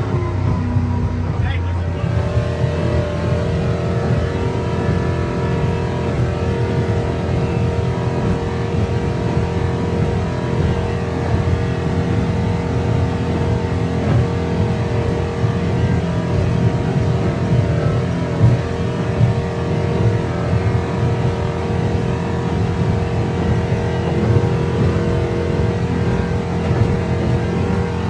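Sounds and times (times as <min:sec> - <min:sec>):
powerboat engine running hard: 0:00.0 - 0:28.0.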